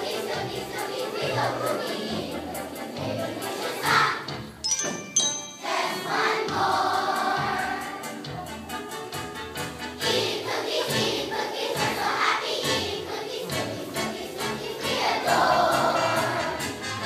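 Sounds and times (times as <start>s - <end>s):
children's choir singing: 0.0s - 8.5s, 10.0s - 17.0s
musical accompaniment with a beat: 0.0s - 17.0s.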